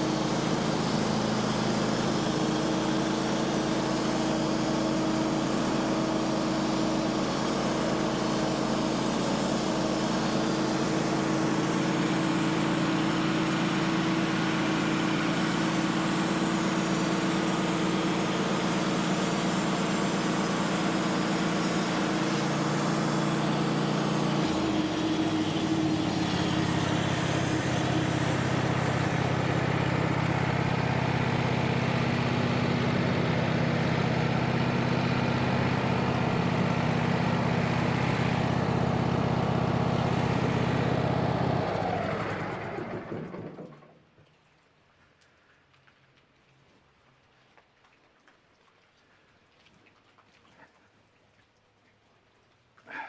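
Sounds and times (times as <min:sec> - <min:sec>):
band sawmill engine running: 0:00.0 - 0:43.9.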